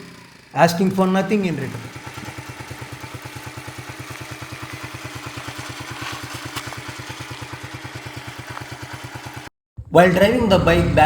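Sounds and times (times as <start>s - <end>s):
motorcycle engine idling: 0.0s - 9.5s.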